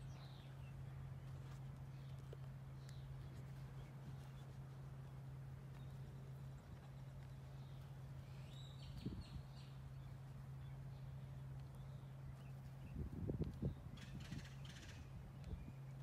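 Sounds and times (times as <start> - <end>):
bird chirping: 0.0 - 16.0
steady low hum: 0.0 - 16.0.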